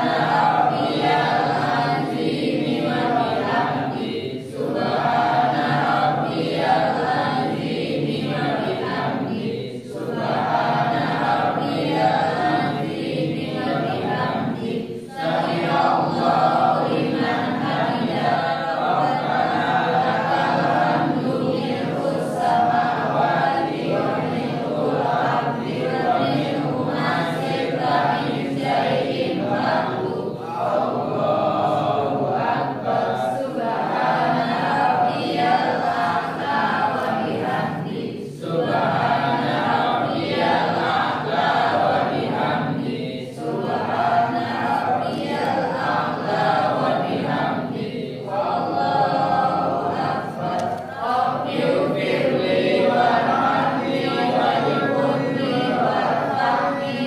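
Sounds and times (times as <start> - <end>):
group chanting in unison: 0.0 - 57.0.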